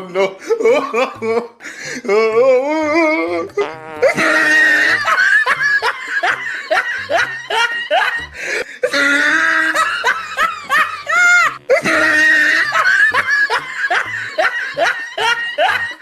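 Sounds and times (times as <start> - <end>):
person laughing: 0.0 - 16.0.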